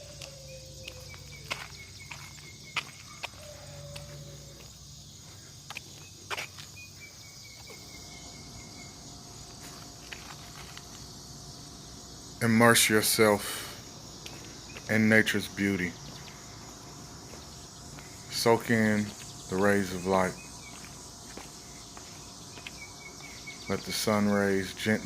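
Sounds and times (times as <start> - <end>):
crickets and insects chirring: 0.0 - 25.0.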